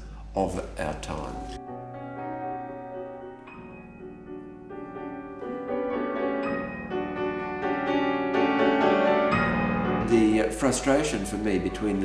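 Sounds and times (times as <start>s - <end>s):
classical piano chords: 1.0s - 12.0s.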